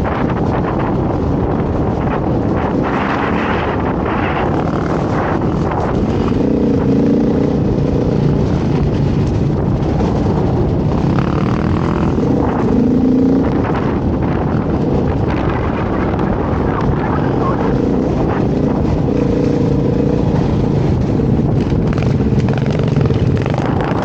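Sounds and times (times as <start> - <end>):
dirt bike engine revving: 2.6 - 15.6, 16.6 - 24.0.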